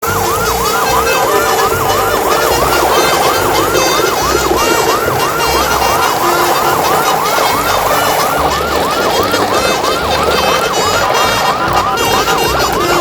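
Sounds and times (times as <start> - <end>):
fast yelping siren: 0.0 - 13.0
low pulses: 0.0 - 13.0.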